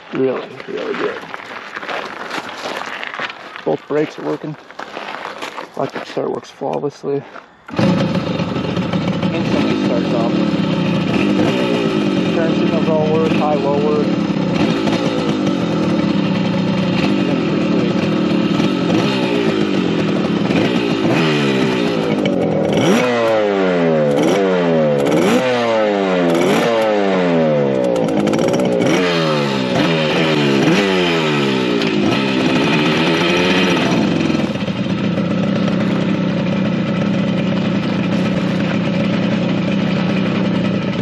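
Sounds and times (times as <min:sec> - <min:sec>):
motorcycle engine idling and revving: 0:00.0 - 0:41.0.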